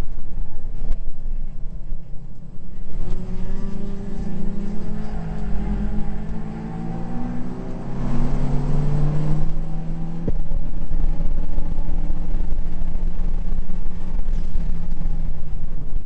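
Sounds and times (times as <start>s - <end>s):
car engine accelerating: 2.4s - 16.0s.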